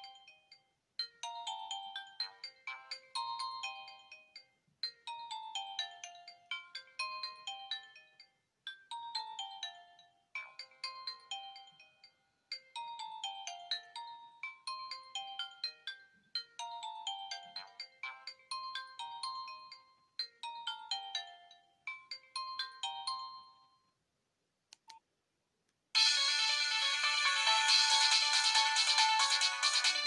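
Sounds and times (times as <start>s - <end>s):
mobile phone ringtone melody: 0.0s - 23.9s, 26.0s - 30.0s.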